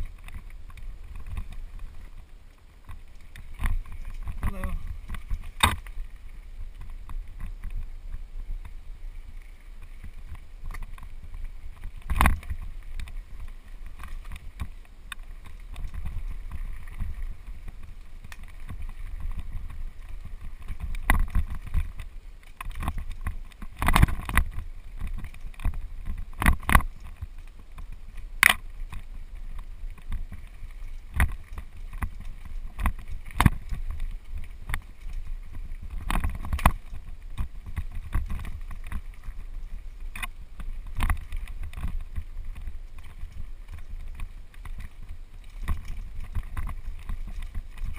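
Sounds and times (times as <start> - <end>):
tyres rolling on dirt: 0.0 - 47.9
wind on microphone: 0.0 - 47.9.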